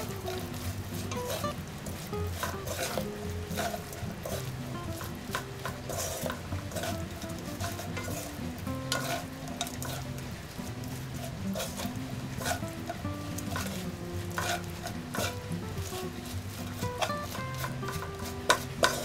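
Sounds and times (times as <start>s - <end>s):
light sizzle: 0.0s - 19.0s
soft background music: 0.0s - 19.0s
spatulas scraping a wok: 0.0s - 19.0s.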